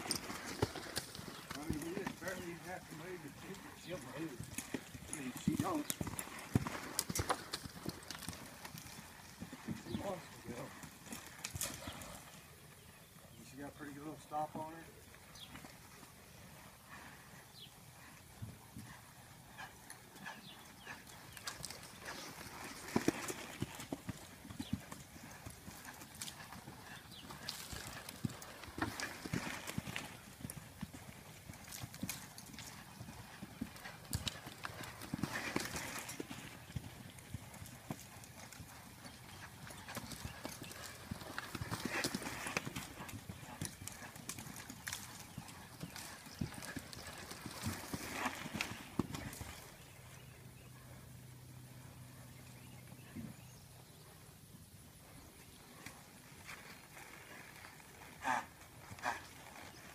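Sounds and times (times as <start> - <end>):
horse hoofbeats on sand: 0.0 - 12.3, 14.1 - 51.0, 55.2 - 59.9.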